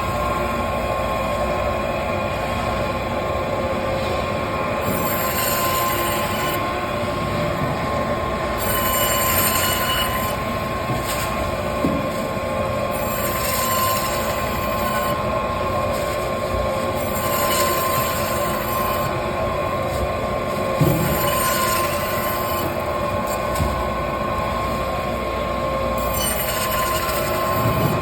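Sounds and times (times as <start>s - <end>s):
band saw whine: 4.3s - 28.0s.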